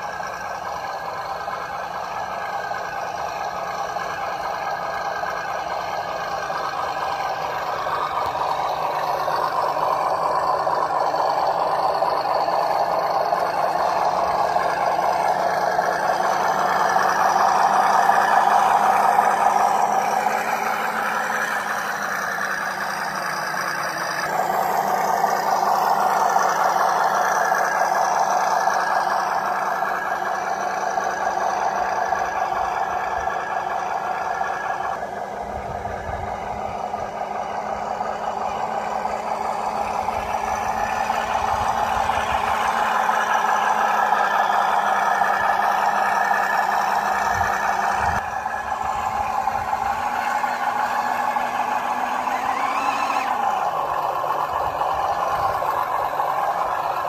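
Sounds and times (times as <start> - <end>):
toy truck electric motor whine: 1.3 - 57.0.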